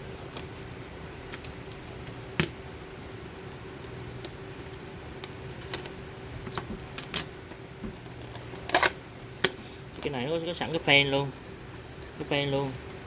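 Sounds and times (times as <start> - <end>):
low electrical fan hum: 0.0 - 13.0.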